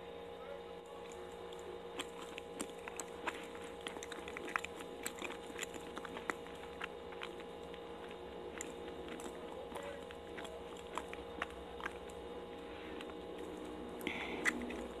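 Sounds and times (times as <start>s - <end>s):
faint steady hum: 0.0s - 15.0s
wet chewing mouth clicks: 1.0s - 15.0s.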